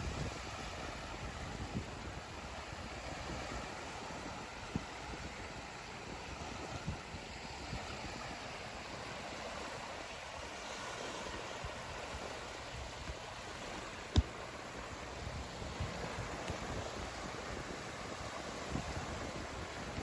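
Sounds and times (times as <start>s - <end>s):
sea waves rushing: 0.0s - 20.0s
wind: 0.0s - 20.0s.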